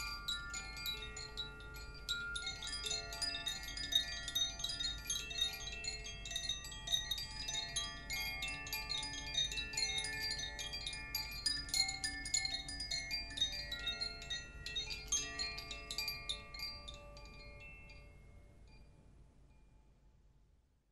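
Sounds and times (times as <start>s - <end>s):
wind chimes jangling: 0.0s - 19.8s.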